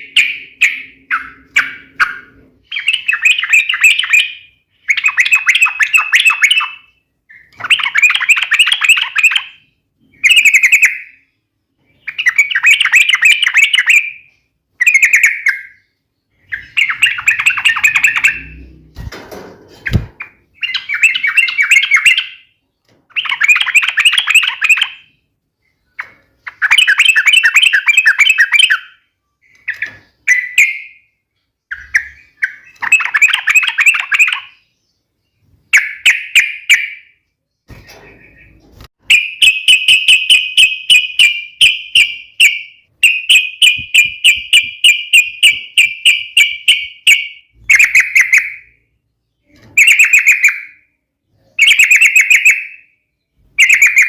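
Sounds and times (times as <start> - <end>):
bird singing rapid chattering song: 0.0 - 19.1, 19.8 - 54.0.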